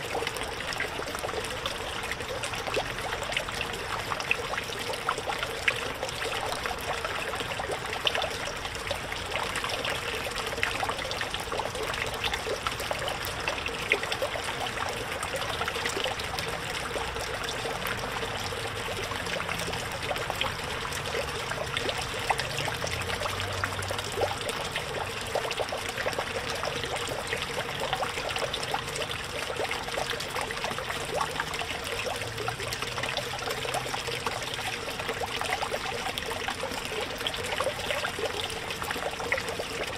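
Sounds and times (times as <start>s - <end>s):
fountain splashing into pond: 0.0s - 39.9s.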